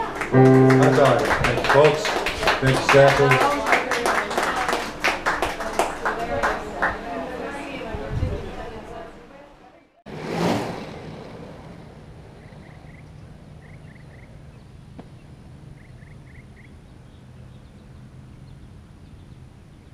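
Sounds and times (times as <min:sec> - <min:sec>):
wind: 0:02.1 - 0:19.9.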